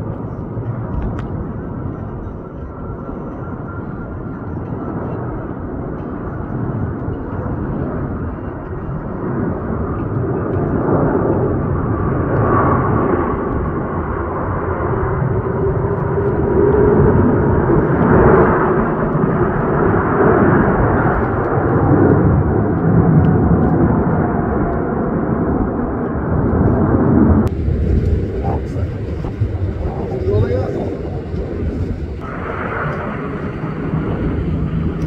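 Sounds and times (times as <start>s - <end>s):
jet engine rushing with whine: 0.0s - 35.0s.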